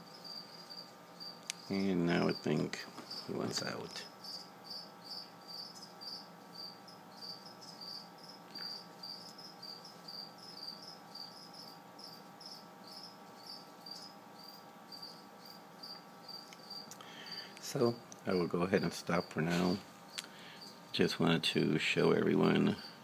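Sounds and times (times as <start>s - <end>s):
cricket chirping: 0.0s - 21.0s, 22.1s - 23.0s
faint steady hum: 0.0s - 23.0s.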